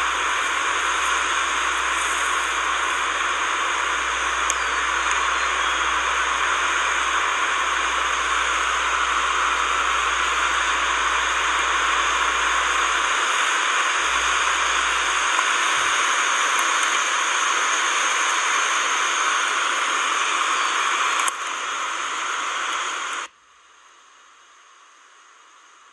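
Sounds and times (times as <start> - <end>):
loud steady hiss: 0.0 - 25.9.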